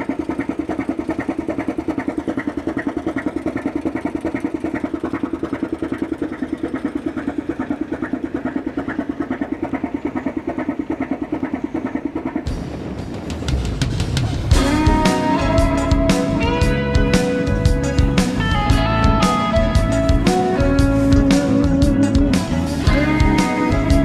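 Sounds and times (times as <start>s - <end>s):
boat engine exhaust pulse: 0.0s - 24.0s.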